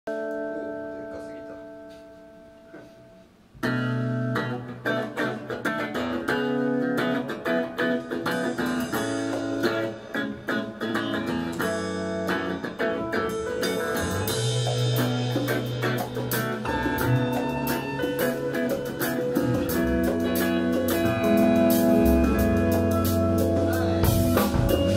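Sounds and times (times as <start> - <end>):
electric guitar: 0.1 - 24.9
live rock band playing: 3.6 - 24.9.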